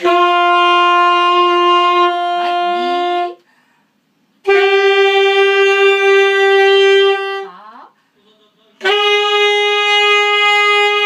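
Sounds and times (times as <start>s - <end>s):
saxophone long held note: 0.0s - 3.6s, 4.4s - 7.5s, 8.8s - 11.0s.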